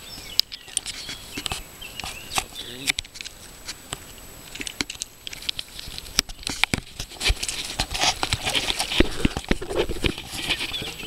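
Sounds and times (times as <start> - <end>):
footsteps on pebbles: 0.8 - 11.0.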